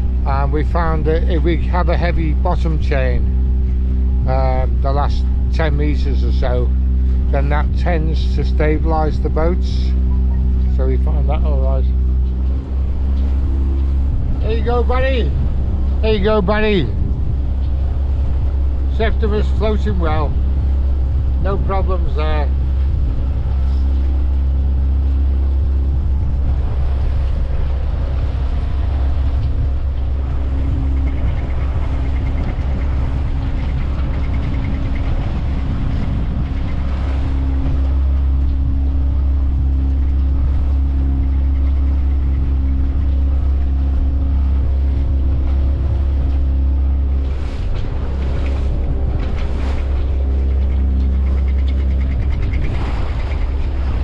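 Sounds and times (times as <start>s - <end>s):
boat engine running steadily: 0.0s - 54.0s
wind rumbling on microphone: 0.0s - 54.0s.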